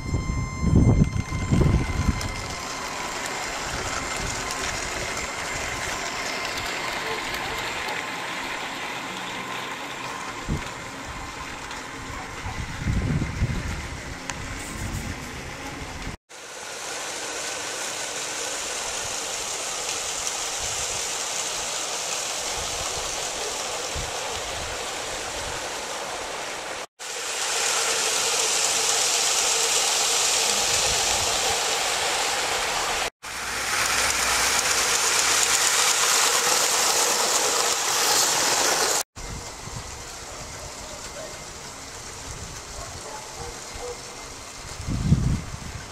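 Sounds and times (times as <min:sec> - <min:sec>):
toy train motors whirring: 0:00.0 - 0:45.9.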